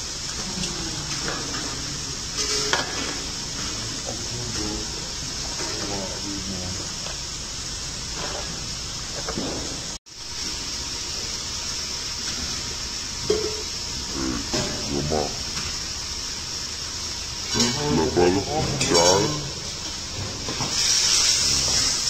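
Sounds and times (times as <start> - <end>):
kitchen background hiss: 0.0 - 22.0.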